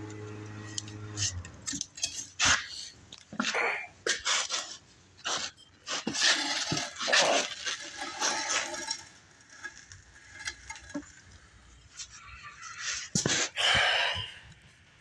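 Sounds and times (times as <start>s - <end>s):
metal car parts clinking and scraping: 0.0s - 3.5s, 4.1s - 13.6s.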